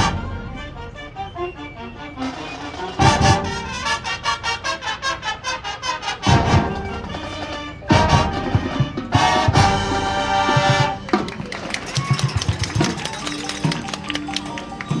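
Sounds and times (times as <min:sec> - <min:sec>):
drum hits: 0:00.0 - 0:13.1
marching band brass: 0:00.0 - 0:15.0.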